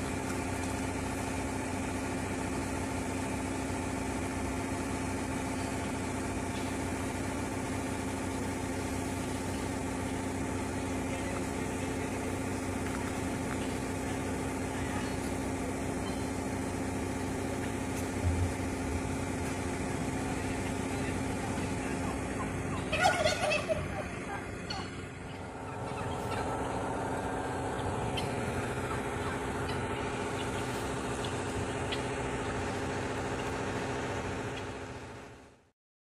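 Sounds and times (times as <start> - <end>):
idling engine hum: 0.0 - 35.7.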